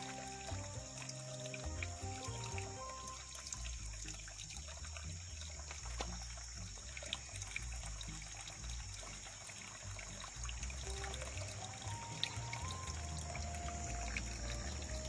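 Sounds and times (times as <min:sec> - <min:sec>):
creek water trickling: 0:00.0 - 0:15.0.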